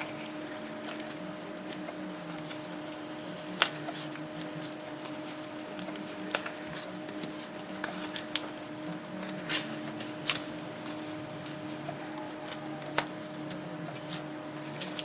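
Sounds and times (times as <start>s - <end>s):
paper clicks and rustles: 0.0s - 15.0s
steady low hum: 0.0s - 15.0s.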